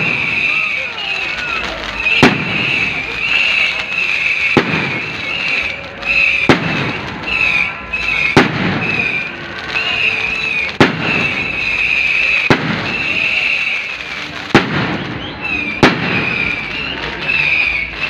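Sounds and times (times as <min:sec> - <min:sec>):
fireworks bangs: 0:00.0 - 0:18.0
fireworks display rumble: 0:00.0 - 0:18.0.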